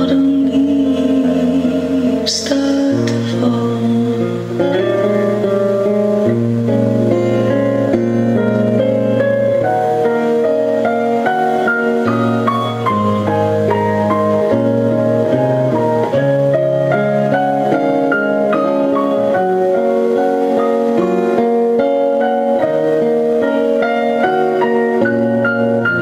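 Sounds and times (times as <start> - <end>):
piano music over loudspeakers: 0.0 - 26.0.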